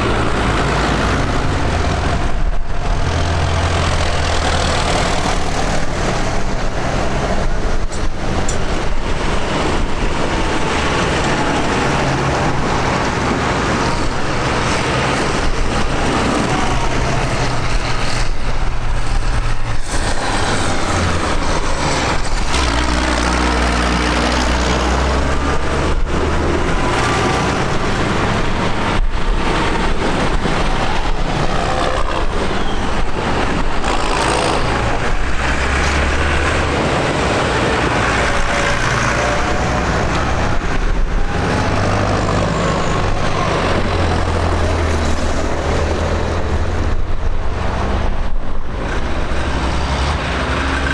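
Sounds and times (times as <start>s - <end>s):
tractor engines driving past: 0.0s - 50.9s.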